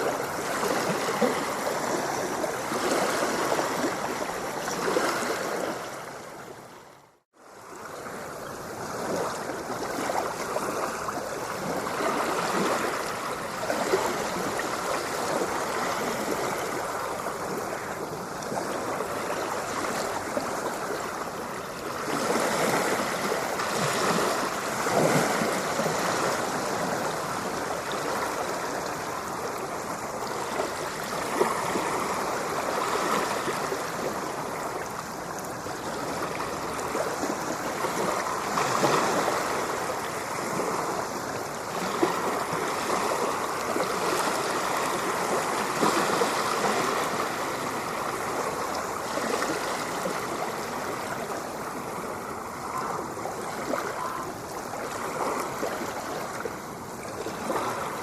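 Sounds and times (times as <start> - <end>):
ocean waves washing: 0.0 - 58.0.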